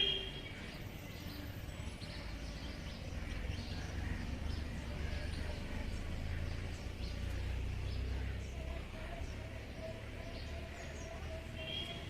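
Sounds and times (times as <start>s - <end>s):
birds chirping: 0.0s - 12.0s
low outdoor rumble: 0.4s - 12.0s.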